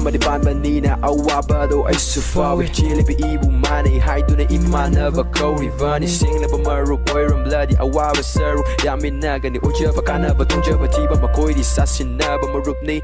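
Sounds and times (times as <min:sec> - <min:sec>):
hip-hop music with vocals: 0:00.0 - 0:13.0.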